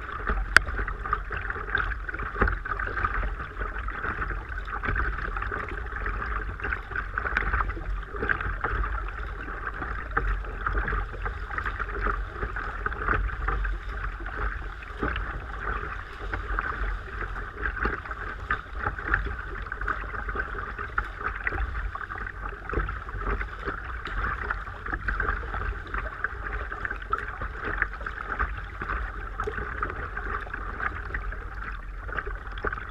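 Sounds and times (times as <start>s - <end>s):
sea water splashing around kayak: 0.0s - 32.9s.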